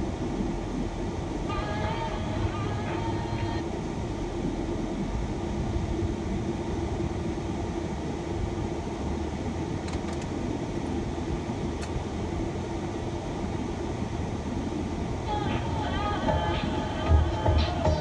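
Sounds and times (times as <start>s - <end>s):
faint steady hum: 0.0s - 18.0s
road and engine rumble: 0.0s - 18.0s.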